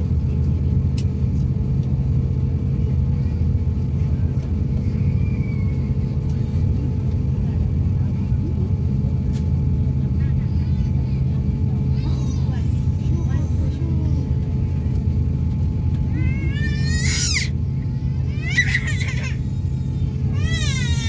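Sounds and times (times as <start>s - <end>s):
airliner cabin engine hum: 0.0s - 21.0s.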